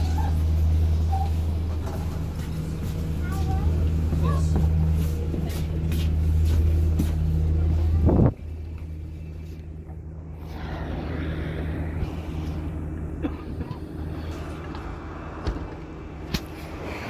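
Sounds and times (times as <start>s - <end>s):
bus engine humming: 0.0s - 17.0s
road and cabin noise: 0.0s - 17.0s.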